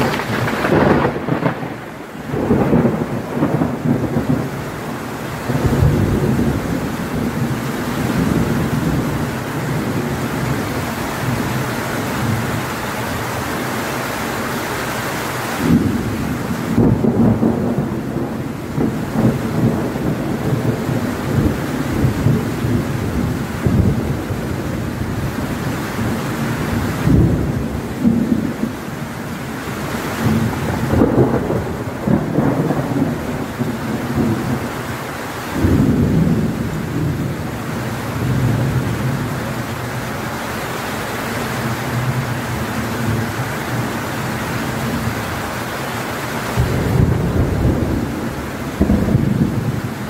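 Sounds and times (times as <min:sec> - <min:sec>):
low thunder rumbling: 0:00.0 - 0:13.3, 0:15.6 - 0:40.4, 0:46.4 - 0:50.0
heavy rain pouring: 0:00.0 - 0:50.0.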